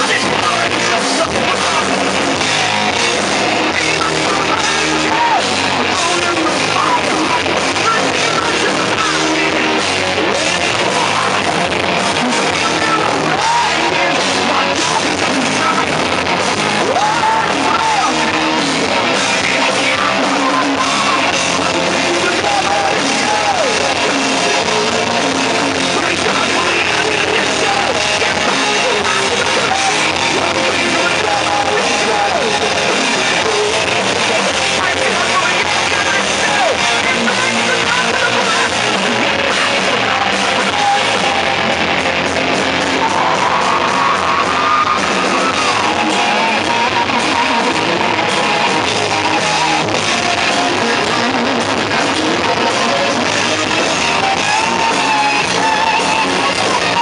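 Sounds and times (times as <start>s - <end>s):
drum kit: 0.0s - 57.0s
electric bass: 0.0s - 57.0s
electric guitar: 0.0s - 57.0s
man singing and shouting: 0.0s - 57.0s.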